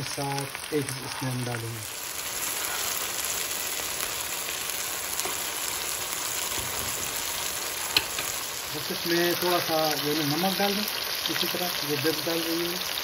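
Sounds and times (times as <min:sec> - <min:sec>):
small crackles of frying: 0:00.0 - 0:13.0
vegetables sizzling in hot oil: 0:00.0 - 0:13.0.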